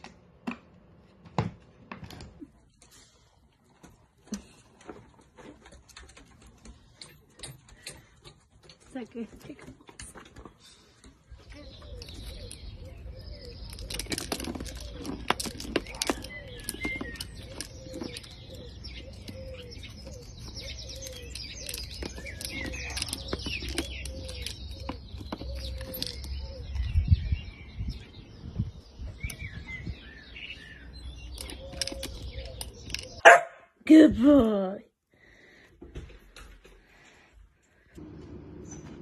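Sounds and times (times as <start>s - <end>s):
birds chirping: 2.7s - 39.0s.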